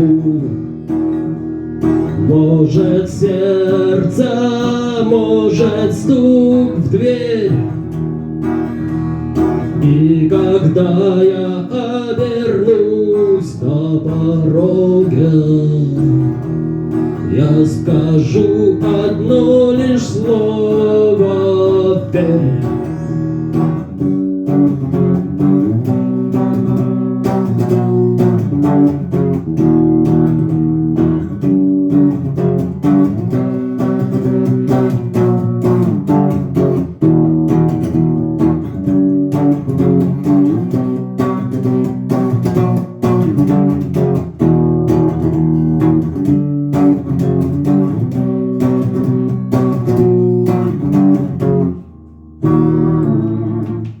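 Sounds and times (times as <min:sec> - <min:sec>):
bass line: 0:00.0 - 0:54.0
strummed guitar chords: 0:00.0 - 0:54.0.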